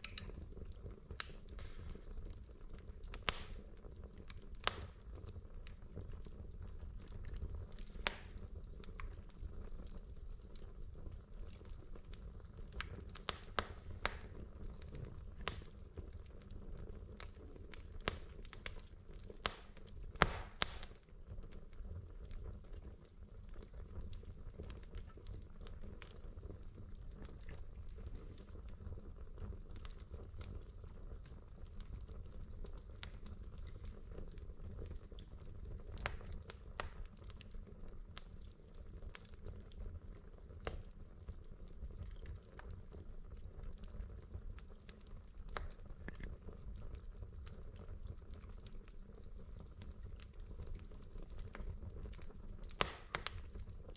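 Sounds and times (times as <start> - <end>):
low fire rumble: 0.0 - 53.9
wood fire crackling and popping: 0.0 - 53.9.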